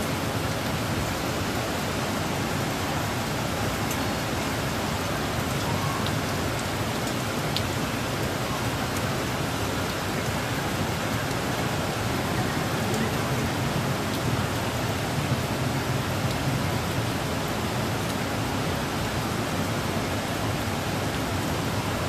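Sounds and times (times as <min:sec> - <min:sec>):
rain falling: 0:00.0 - 0:22.0
raindrops ticking on surfaces: 0:00.0 - 0:22.0.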